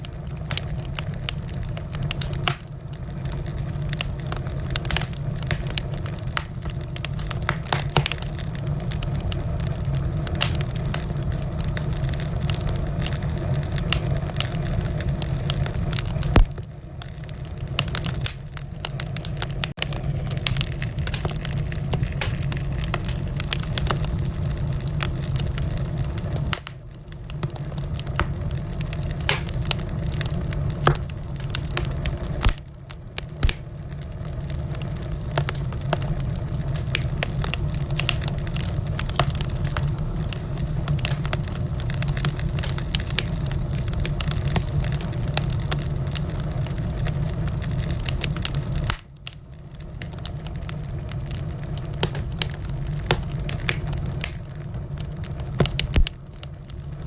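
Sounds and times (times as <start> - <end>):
low rumble of flames: 0.0 - 57.0
wood fire crackling and popping: 0.0 - 57.0.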